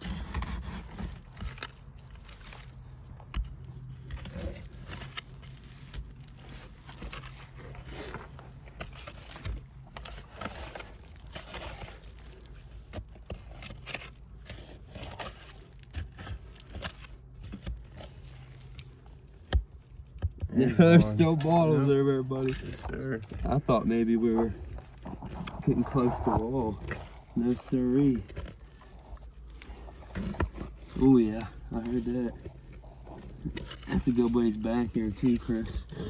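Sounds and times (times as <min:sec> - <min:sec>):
digging in dirt: 0:00.0 - 0:36.0
soil rustling and knocks: 0:00.0 - 0:36.0.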